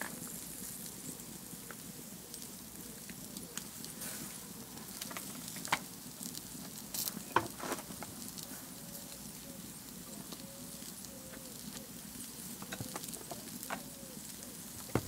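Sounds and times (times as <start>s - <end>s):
wood fire crackling and hissing: 0.0s - 15.0s.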